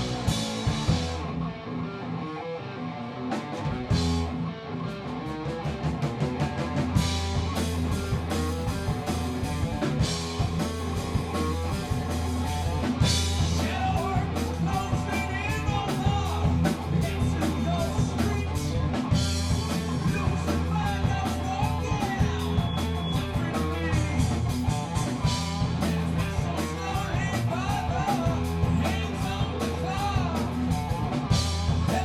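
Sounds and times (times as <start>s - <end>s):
drum kit: 0.0s - 1.5s, 3.2s - 32.0s
bass guitar: 0.0s - 32.0s
electric guitar: 0.0s - 32.0s.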